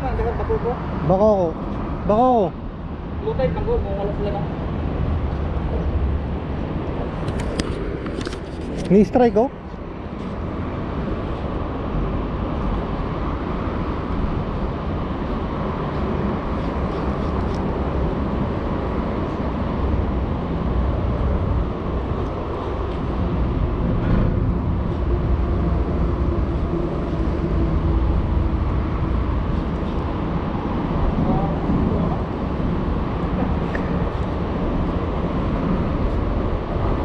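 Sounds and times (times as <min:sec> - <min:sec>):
low rumble of road traffic: 0:00.0 - 0:37.0.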